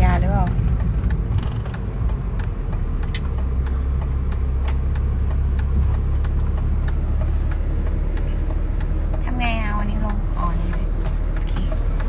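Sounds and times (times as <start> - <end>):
car engine rumbling: 0.0 - 12.0
light ticks: 0.0 - 12.0.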